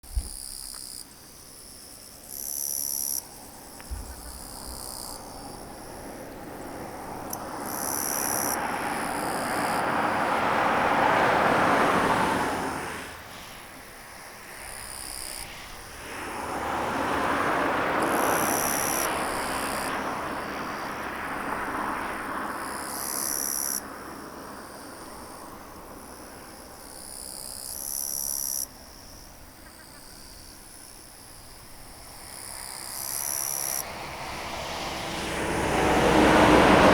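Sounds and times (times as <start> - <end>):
insects chirring: 0.1 - 34.6.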